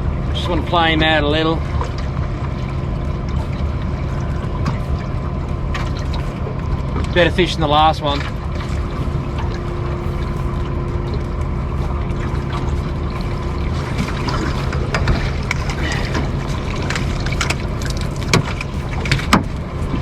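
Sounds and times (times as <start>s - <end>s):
steady rain and water: 0.0s - 20.0s
water splashes: 0.0s - 20.0s.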